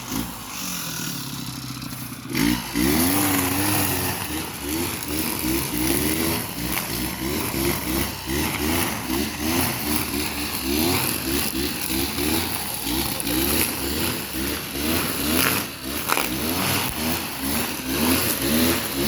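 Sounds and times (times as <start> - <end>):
brush cutter engine running hard: 0.0 - 19.0.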